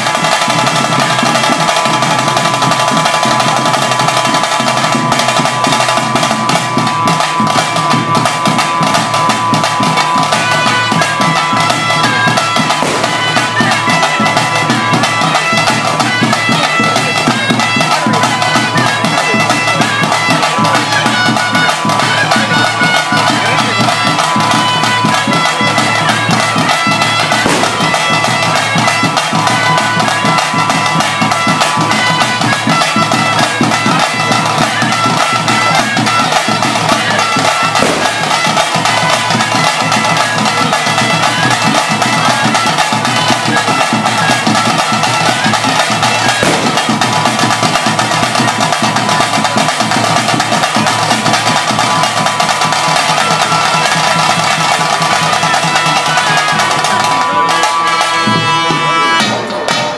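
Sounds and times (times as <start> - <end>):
drum beat: 0.0 - 59.9
wind instrument melody: 0.0 - 59.9.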